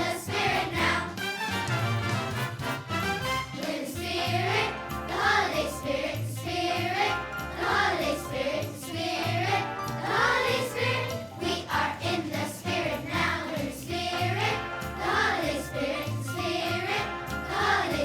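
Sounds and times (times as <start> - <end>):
children's choir singing: 0.0 - 1.4, 3.5 - 18.0
instrumental accompaniment: 0.0 - 18.0.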